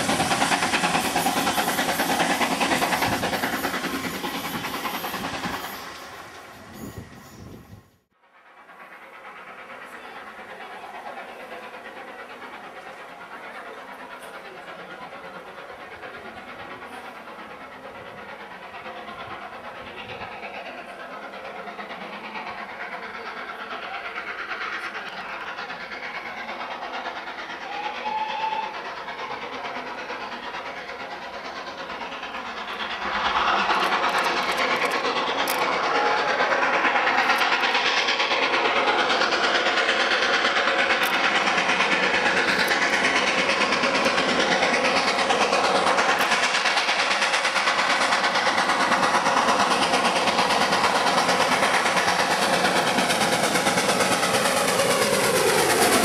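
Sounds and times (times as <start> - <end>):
steam locomotive approaching: 0.0 - 56.0.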